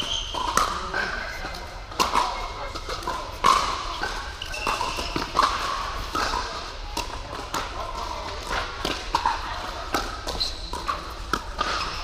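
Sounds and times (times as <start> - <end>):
ball bouncing on court: 0.0 - 12.0.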